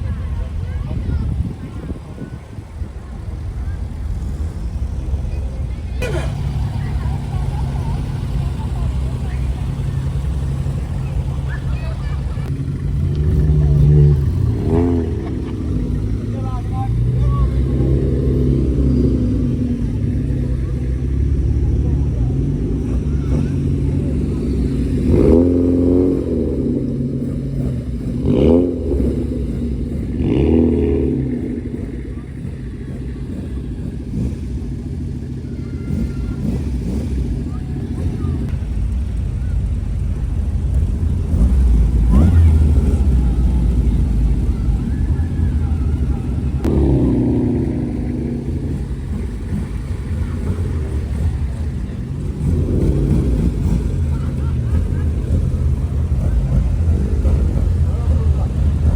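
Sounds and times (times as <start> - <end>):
car engine rumbling and revving: 0.0 - 58.9.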